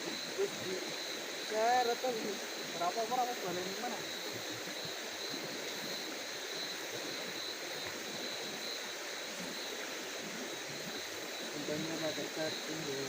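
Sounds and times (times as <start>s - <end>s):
even hiss: 0.0s - 13.0s.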